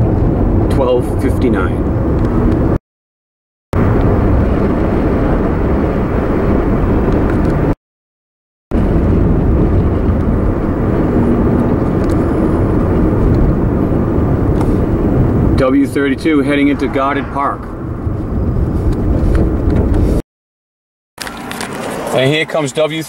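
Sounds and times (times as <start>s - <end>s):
car interior road and engine noise: 0.0s - 2.8s, 3.8s - 7.8s, 8.7s - 20.2s, 21.2s - 23.0s.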